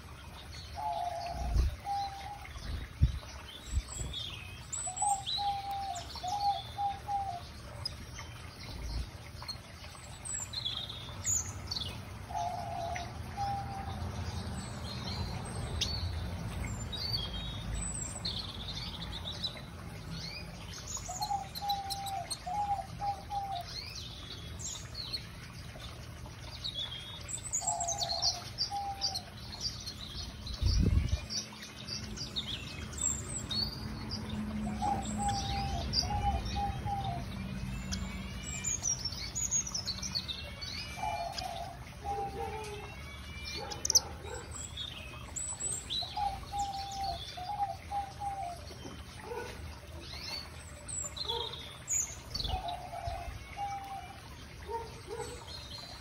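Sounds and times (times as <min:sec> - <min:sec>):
finches and canaries chirping: 0:00.0 - 0:56.0.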